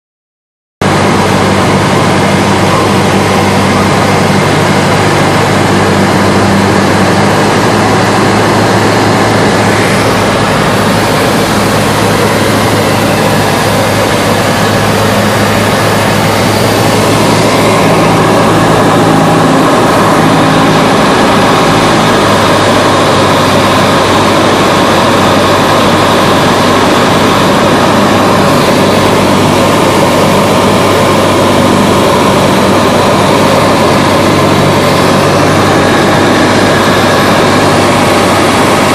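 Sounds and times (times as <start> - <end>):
propeller engine drone: 0.8 - 38.9.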